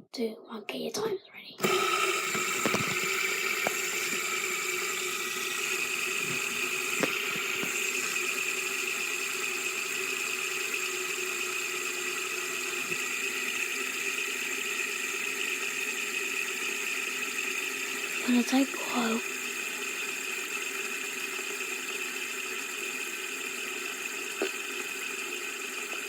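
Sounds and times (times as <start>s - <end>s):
fidget spinner whirring: 1.6s - 26.0s.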